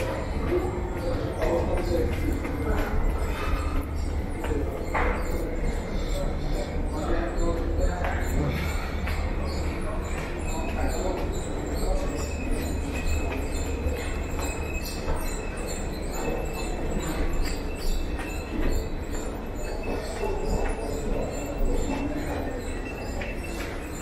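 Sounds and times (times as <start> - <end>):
high wheel squeal: 0.0 - 24.0.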